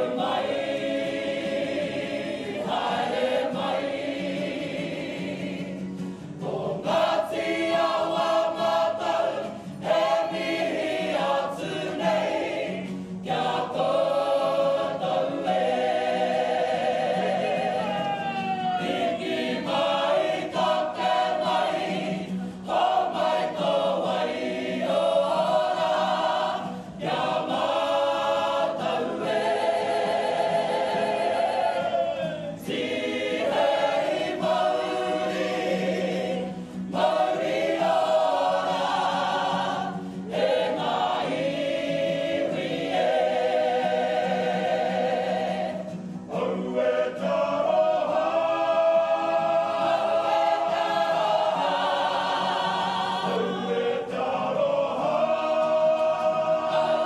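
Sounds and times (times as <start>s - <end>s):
choir of women and men singing: 0.0s - 57.0s.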